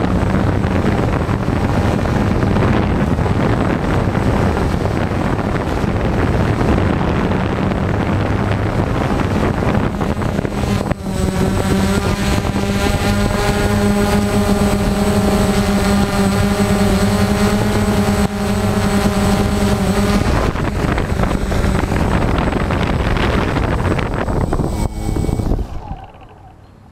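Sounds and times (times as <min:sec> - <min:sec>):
drone propellers humming: 0:00.0 - 0:26.9.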